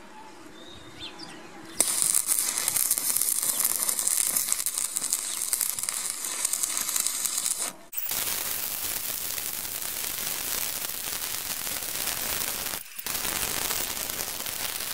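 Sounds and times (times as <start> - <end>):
welding arc crackling and hissing: 1.8 - 14.9.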